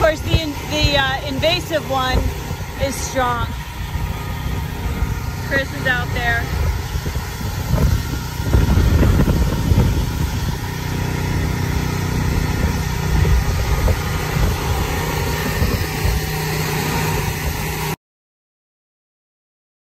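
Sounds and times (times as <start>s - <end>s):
wind buffeting microphone: 0.0s - 17.8s
generator engine running: 0.0s - 18.0s.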